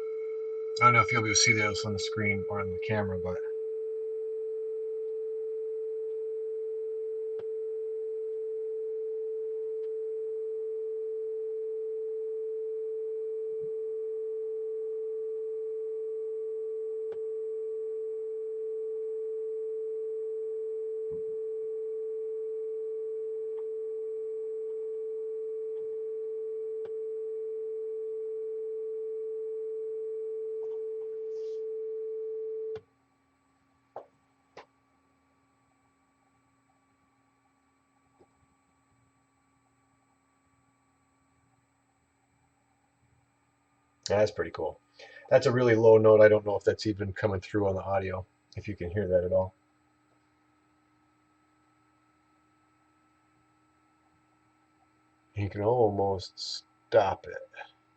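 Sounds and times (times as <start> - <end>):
sine wave test tone: 0.0 - 57.9.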